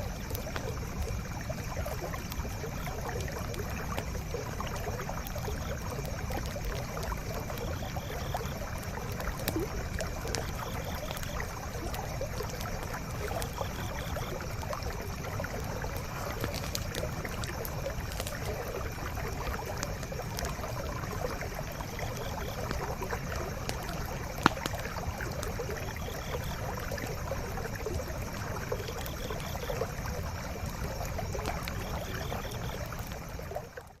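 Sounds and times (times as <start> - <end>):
campfire crackling and popping: 0.0 - 33.9
stream flowing: 0.0 - 33.9.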